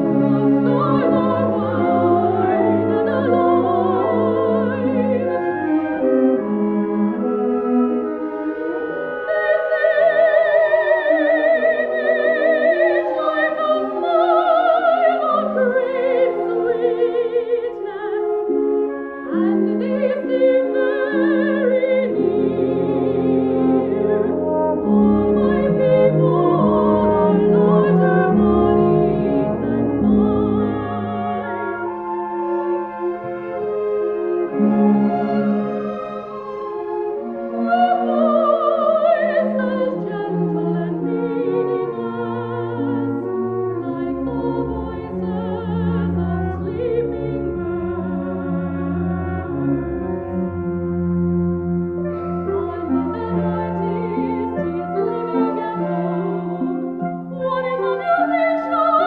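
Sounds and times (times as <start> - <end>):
soprano singing with vibrato: 0.0 - 5.9, 8.9 - 33.0, 37.6 - 49.4, 52.4 - 59.0
orchestral accompaniment: 0.0 - 59.0.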